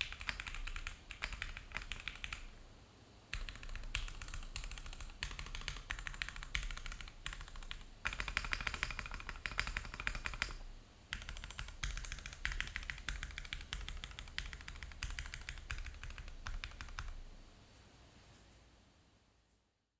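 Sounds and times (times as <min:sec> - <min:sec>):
typing on keyboard: 0:00.0 - 0:02.6, 0:03.3 - 0:17.2.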